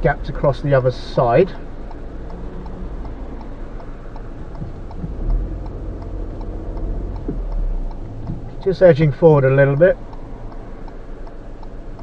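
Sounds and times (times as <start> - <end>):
car idling rumble: 0.0 - 12.0
passing traffic: 0.0 - 12.0
turn indicator ticking: 0.0 - 12.0.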